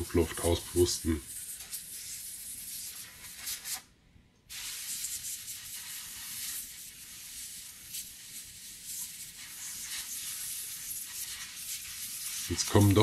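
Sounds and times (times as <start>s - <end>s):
compressed air hissing: 0.0s - 3.8s, 4.5s - 13.0s.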